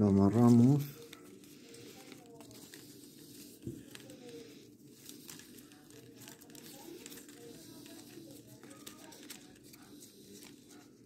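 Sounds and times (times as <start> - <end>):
plastic ribbon crinkling: 0.2 - 11.0.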